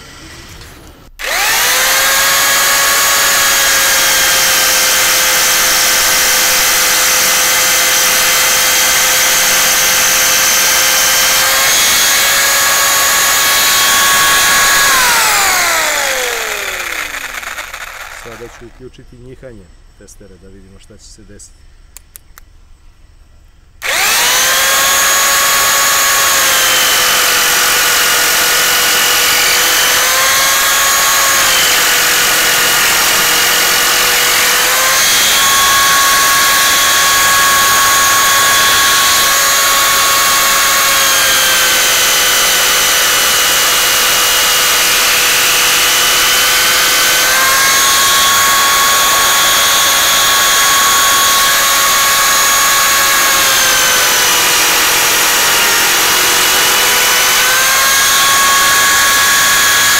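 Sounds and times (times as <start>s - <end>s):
jigsaw cutting steel: 1.1s - 18.8s, 23.8s - 59.9s.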